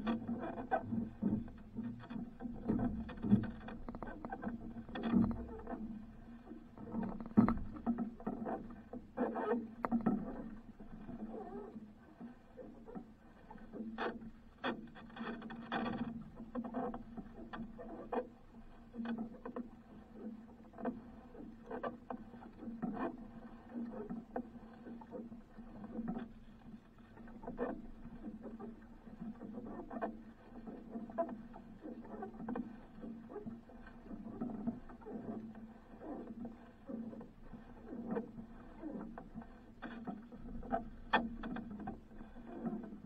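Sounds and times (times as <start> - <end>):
water lapping at hull: 0.0 - 43.0.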